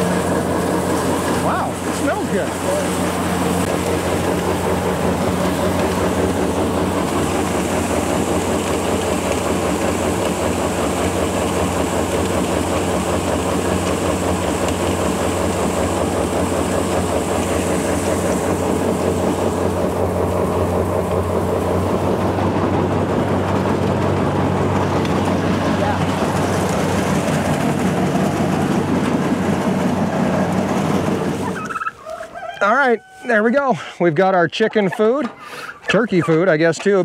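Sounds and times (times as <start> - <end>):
grain pouring with rattling hiss: 0.0 - 31.4
auger engine running: 0.0 - 37.0.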